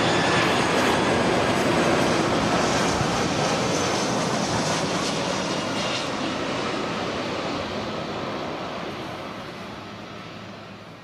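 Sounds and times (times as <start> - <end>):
jet airliner passing low: 0.0 - 11.0.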